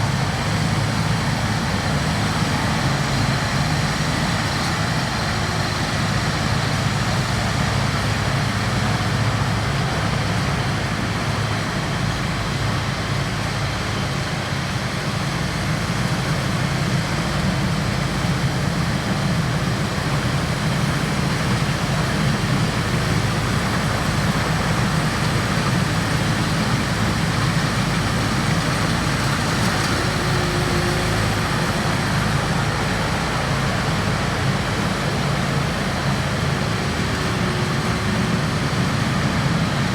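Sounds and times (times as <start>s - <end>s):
diesel engine droning: 0.0s - 39.9s
harvester machinery noise: 0.0s - 39.9s.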